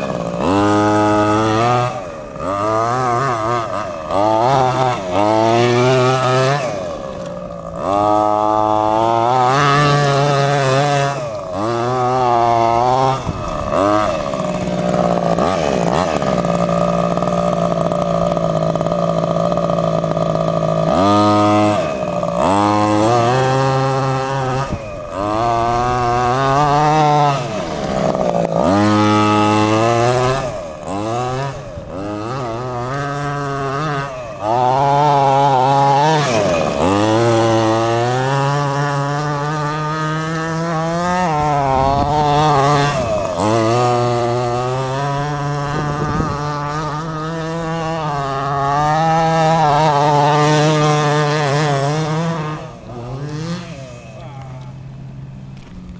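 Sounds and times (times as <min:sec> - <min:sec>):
small two-stroke engine revving: 0:00.0 - 0:55.9.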